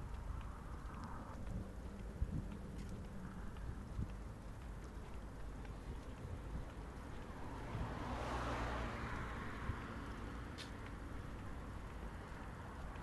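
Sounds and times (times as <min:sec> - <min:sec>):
traffic noise: 0:00.0 - 0:13.0
wind: 0:00.0 - 0:13.0.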